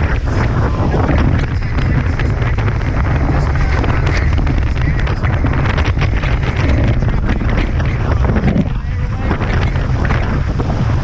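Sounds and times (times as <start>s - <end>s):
water rushing past hulls: 0.0s - 11.0s
wind buffeting microphone: 0.0s - 11.0s.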